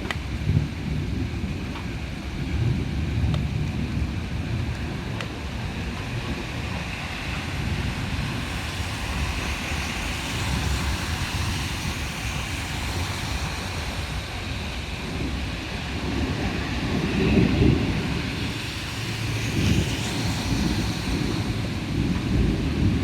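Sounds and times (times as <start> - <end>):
heavy rain pouring: 0.0 - 23.0
wind buffeting microphone: 0.0 - 23.0.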